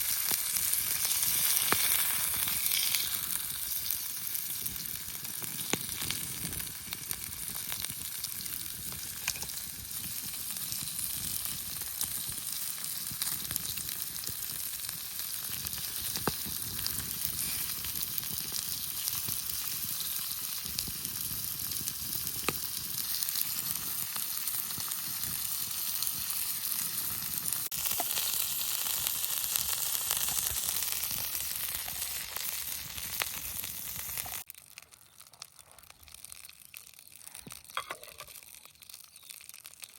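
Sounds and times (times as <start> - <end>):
burger patty sizzling: 0.0 - 39.9.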